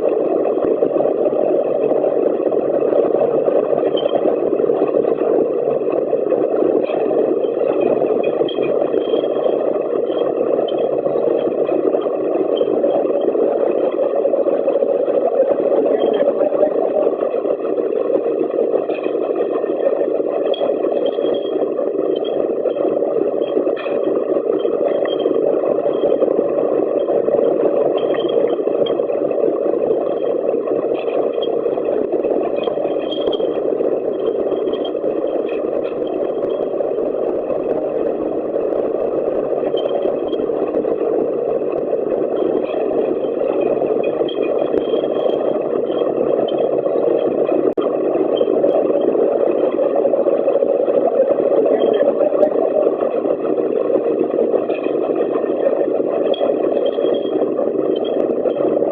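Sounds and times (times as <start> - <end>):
bottle washing machine running: 0.0 - 58.9.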